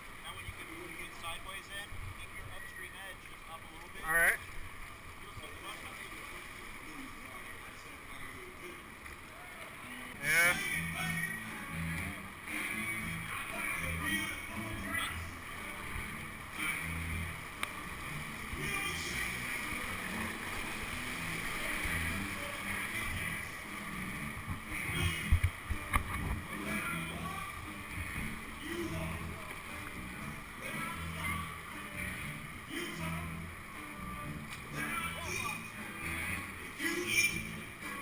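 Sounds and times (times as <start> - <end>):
paddle splashing: 0.0 - 38.0
whitewater rushing: 0.0 - 38.0.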